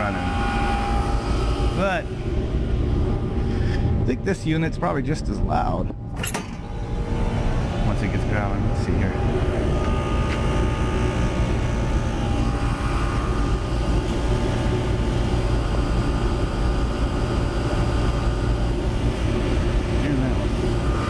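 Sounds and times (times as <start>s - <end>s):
heat pump compressors humming: 0.0s - 21.0s.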